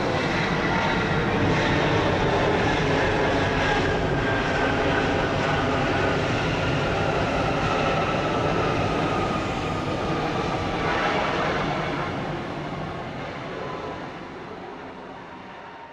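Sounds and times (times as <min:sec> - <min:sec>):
jet engines rolling on runway: 0:00.0 - 0:15.9.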